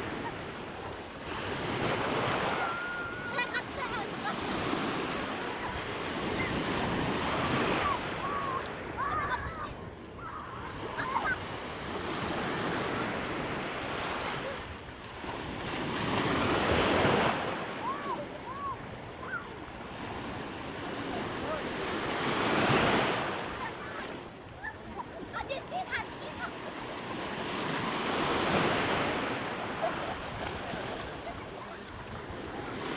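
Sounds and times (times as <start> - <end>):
sea waves washing onto shore: 0.0 - 32.9.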